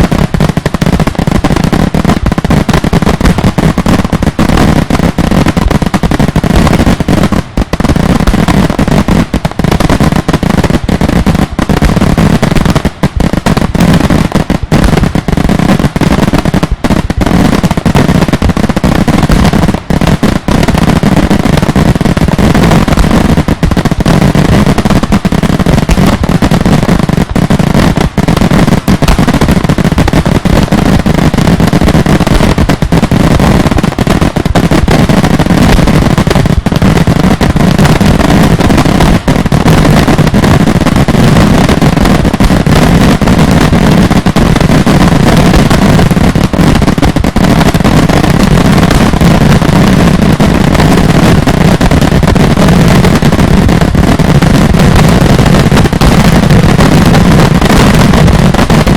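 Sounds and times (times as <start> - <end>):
fireworks bangs: 0.0 - 58.9.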